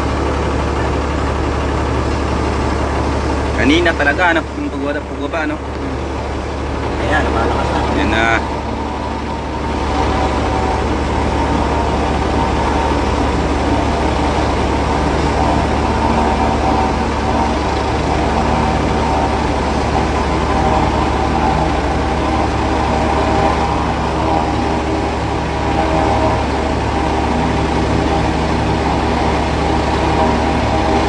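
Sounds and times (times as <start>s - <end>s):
helicopter rotor beating: 0.0s - 31.0s
turbine whine: 0.0s - 31.0s.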